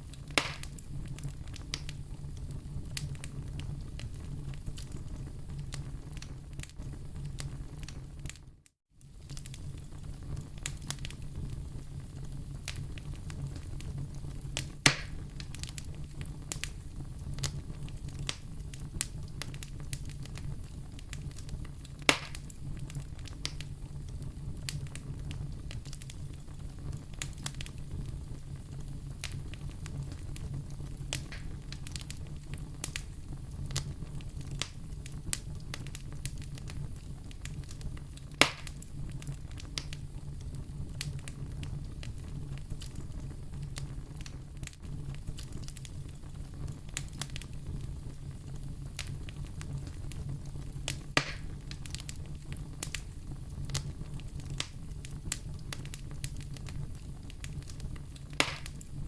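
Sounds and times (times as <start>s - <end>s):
loud fire pops: 0.0s - 8.4s, 9.0s - 59.0s
wood fire crackling: 0.0s - 59.0s.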